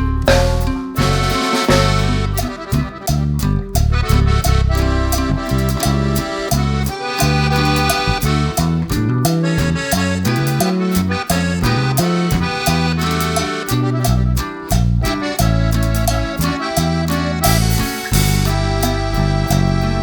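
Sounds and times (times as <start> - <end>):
accordion-like melody: 0.0 - 20.0
plucked strings: 0.0 - 20.0
steady beat: 0.0 - 20.0.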